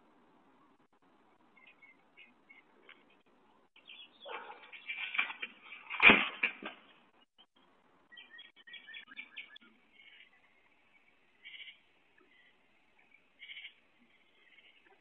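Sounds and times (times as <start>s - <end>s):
small birds chirping: 0.5s - 5.9s, 6.8s - 15.0s.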